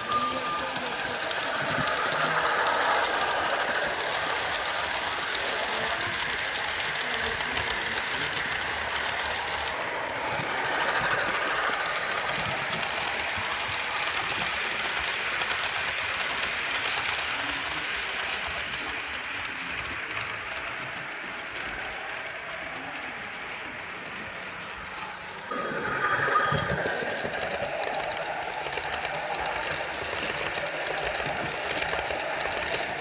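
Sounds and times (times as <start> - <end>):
model train motor whirring: 0.0 - 33.0
wheels clicking over rails: 0.0 - 33.0.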